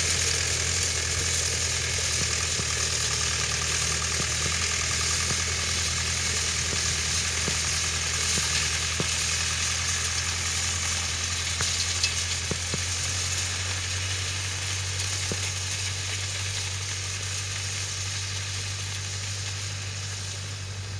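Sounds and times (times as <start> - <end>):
tractor engine humming: 0.0 - 20.9.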